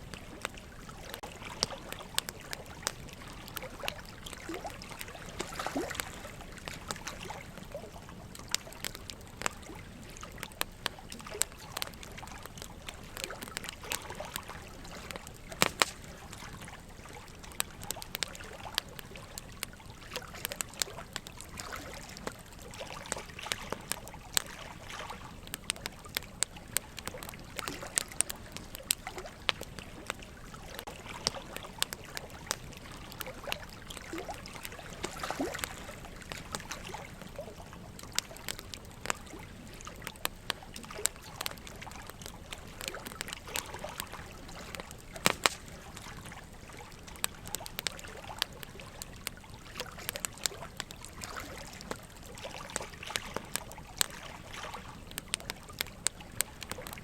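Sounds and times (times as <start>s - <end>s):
burning logs crackling and popping: 0.0s - 57.0s
trickle of running water: 0.0s - 57.0s.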